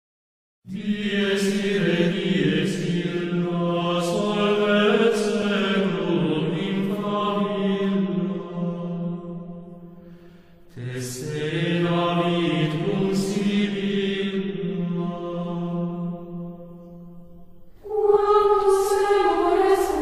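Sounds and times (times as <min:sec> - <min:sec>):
voices chanting over a drone: 0:00.7 - 0:10.2, 0:10.8 - 0:17.2, 0:17.8 - 0:20.0.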